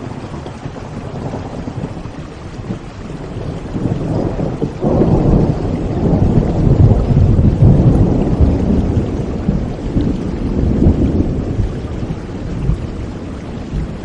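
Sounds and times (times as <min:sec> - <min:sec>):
low rumble of thunder: 0:00.0 - 0:14.0
rain hissing: 0:00.0 - 0:14.0.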